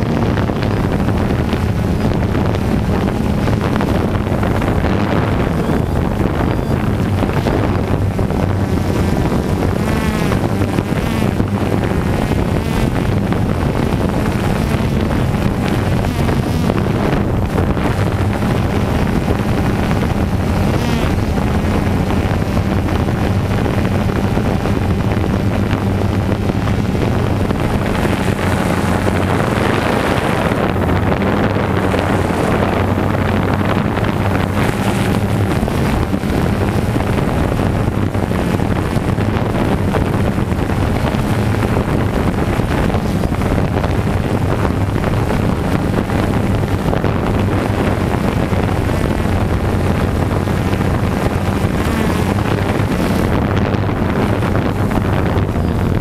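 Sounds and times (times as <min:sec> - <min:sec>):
drone motors humming: 0:00.0 - 0:56.0
wind rushing over microphone: 0:00.0 - 0:56.0.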